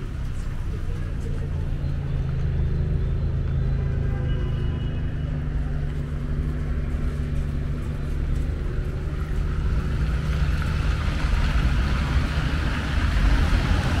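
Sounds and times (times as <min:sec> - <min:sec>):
low rumble of passing cars: 0:00.0 - 0:14.0.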